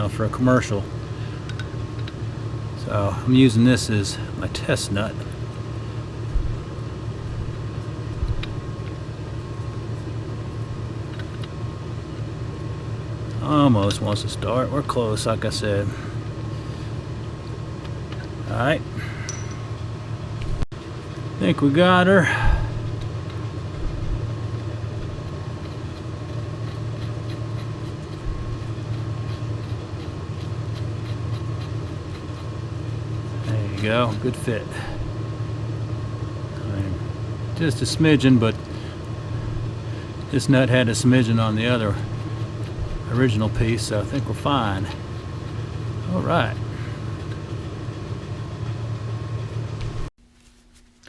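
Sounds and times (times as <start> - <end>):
shop machinery humming: 0.0 - 51.0
thin steady whine: 0.0 - 51.0.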